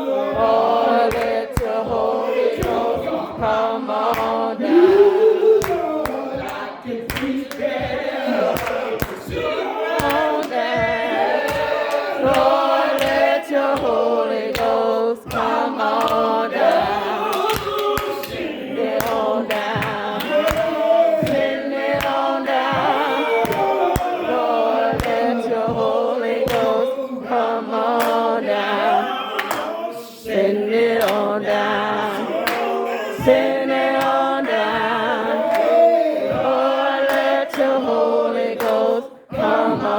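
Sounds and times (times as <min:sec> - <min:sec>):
congregation singing: 0:00.0 - 0:39.9.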